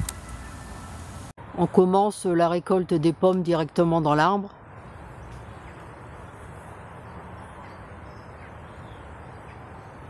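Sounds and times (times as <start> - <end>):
outdoor background hum: 0.0 - 10.0.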